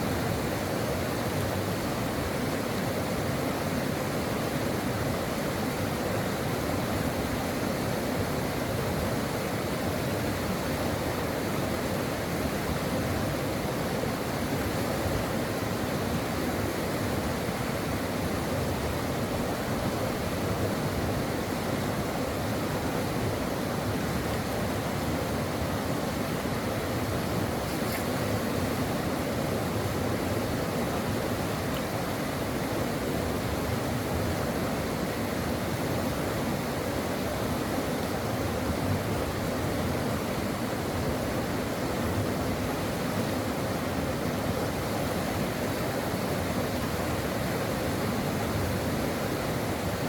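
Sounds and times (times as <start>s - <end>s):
mountain stream flowing: 0.0s - 50.0s.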